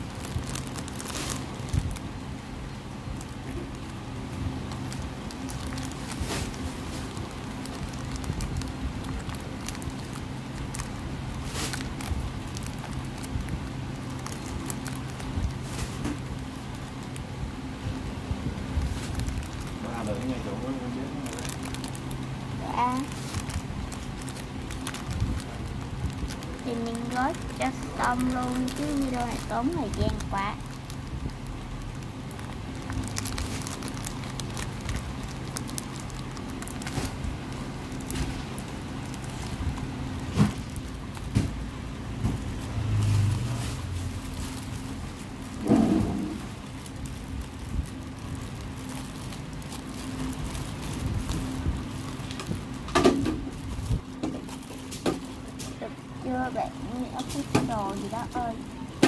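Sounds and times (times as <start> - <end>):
packing material rustle: 0.0 - 2.4, 3.0 - 59.0
steady low hum: 0.0 - 59.0.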